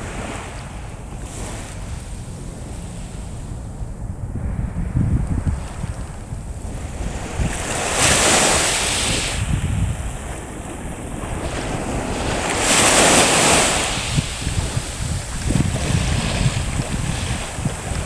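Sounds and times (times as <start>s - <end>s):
small sea waves breaking: 0.0s - 18.0s
wind rumbling on microphone: 0.0s - 18.0s.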